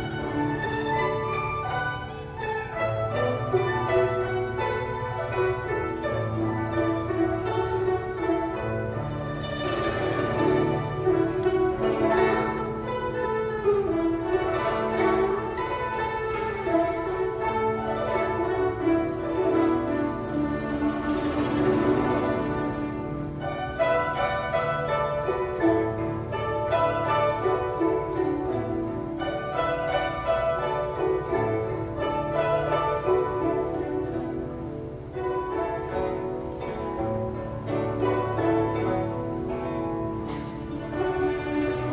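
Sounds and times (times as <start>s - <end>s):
plucked zither ensemble: 0.0s - 41.9s.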